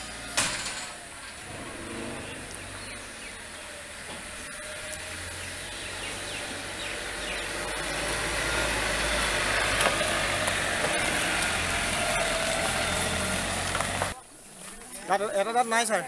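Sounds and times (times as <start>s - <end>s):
vehicle engine: 0.0s - 14.2s
tyres on gravel: 0.0s - 16.0s.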